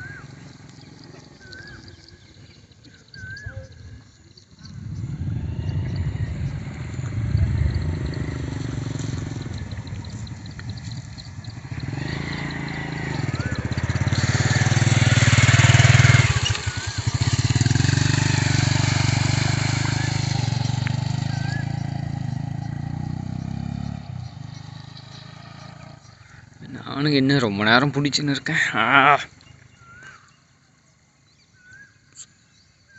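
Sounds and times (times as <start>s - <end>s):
motorcycle engine running: 0.0s - 30.7s.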